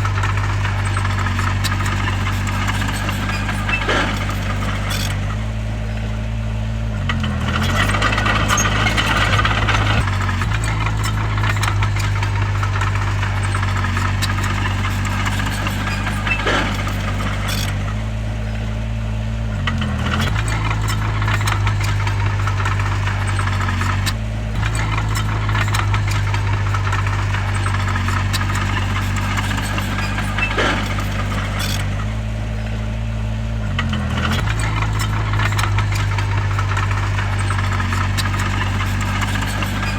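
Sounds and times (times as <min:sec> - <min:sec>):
metallic rattling and clanking: 0:00.0 - 0:06.2, 0:07.0 - 0:18.8, 0:19.6 - 0:39.9
bulldozer diesel engine running: 0:00.0 - 0:39.9.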